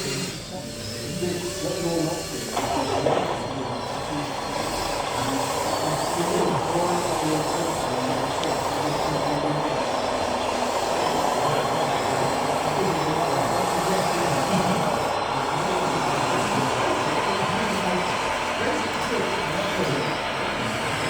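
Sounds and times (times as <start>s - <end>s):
indistinct voices: 0.0s - 21.0s.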